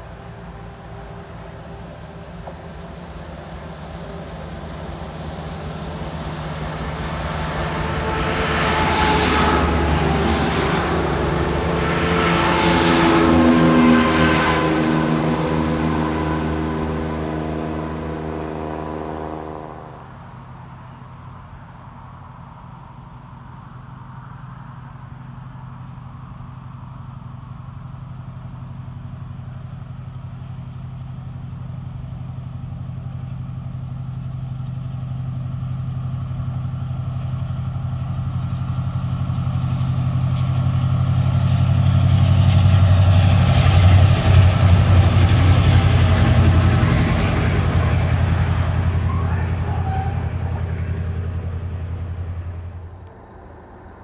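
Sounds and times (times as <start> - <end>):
diesel locomotive engines droning: 0.0 - 54.0
train wheel and rail noise: 0.0 - 54.0.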